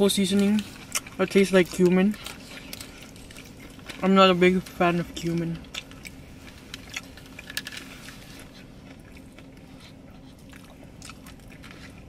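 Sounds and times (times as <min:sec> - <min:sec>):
steady low hum: 0:00.0 - 0:12.0
quiet chewing: 0:00.2 - 0:12.0.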